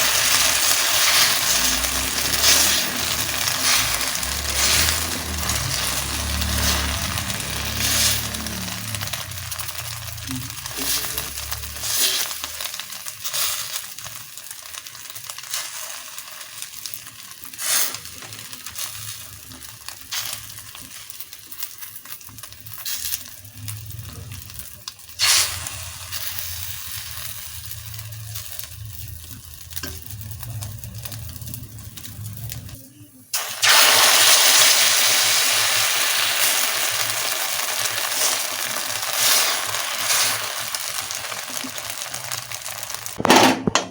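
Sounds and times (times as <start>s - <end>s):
egg sizzling in hot oil: 0.0s - 43.2s
oil hissing in a pan: 0.0s - 43.2s.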